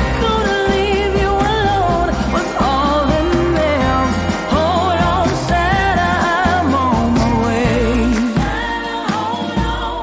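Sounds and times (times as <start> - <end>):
pop music: 0.0 - 10.0.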